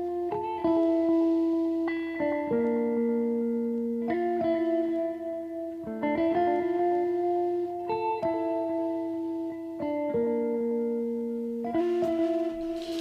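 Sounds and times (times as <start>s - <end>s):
plucked guitar chords: 0.0s - 13.0s.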